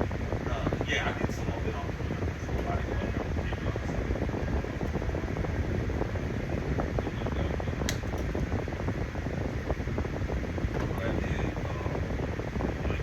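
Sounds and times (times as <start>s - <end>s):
heavy low rumble: 0.0s - 13.0s
steady rushing noise: 0.0s - 13.0s.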